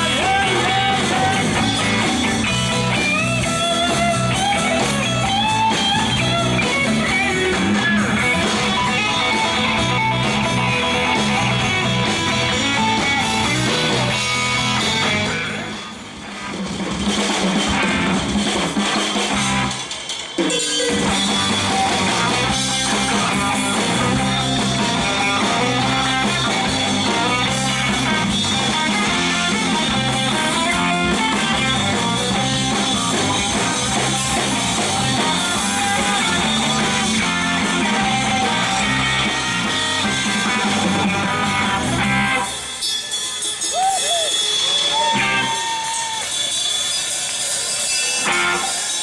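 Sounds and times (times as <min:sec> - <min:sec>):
guitars strummed and picked: 0:00.0 - 0:43.2, 0:45.0 - 0:46.4, 0:47.7 - 0:49.0
drum kit beat: 0:00.0 - 0:49.0.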